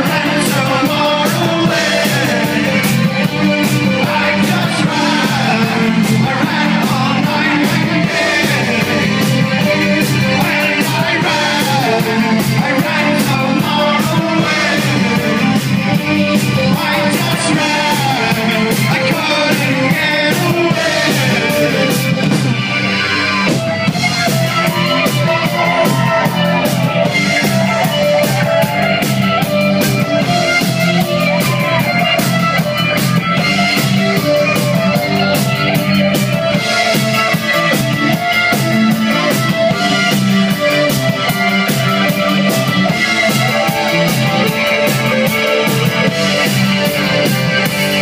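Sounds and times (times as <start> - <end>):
drum kit beat: 0.0 - 48.0
electric guitar: 0.0 - 48.0
rock band playing live: 0.0 - 48.0.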